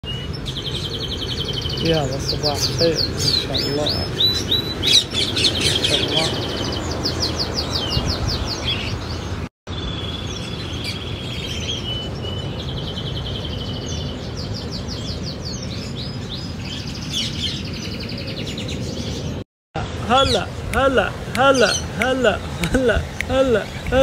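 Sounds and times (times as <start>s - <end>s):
small birds chirping and trilling: 0.0s - 24.0s.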